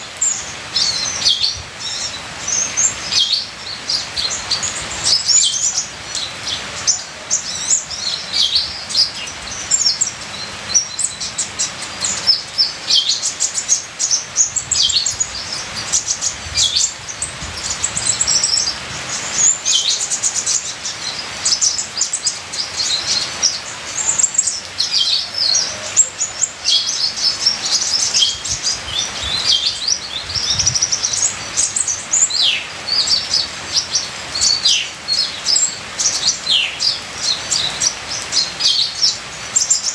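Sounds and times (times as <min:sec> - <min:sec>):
sunbird singing: 0:00.0 - 0:39.9
trickling water hiss: 0:00.0 - 0:39.9.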